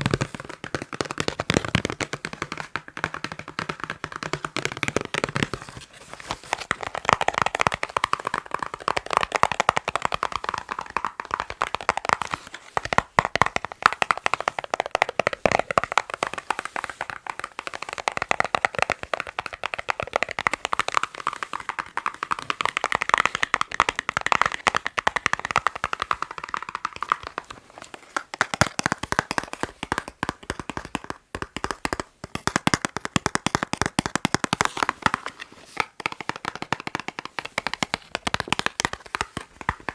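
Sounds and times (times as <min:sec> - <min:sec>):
fingertips tapping on a box: 0:00.0 - 0:39.9.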